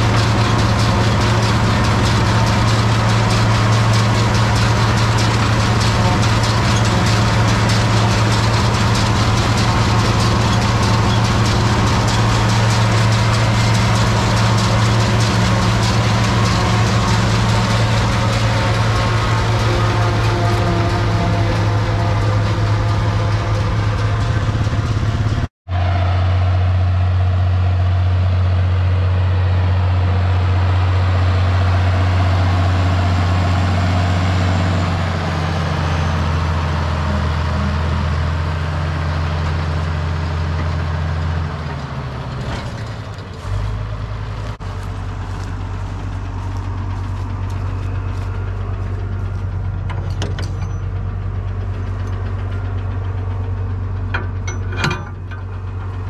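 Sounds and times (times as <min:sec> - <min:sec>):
tractor engine drone: 0:00.0 - 0:56.0
tractor idling: 0:00.0 - 0:56.0.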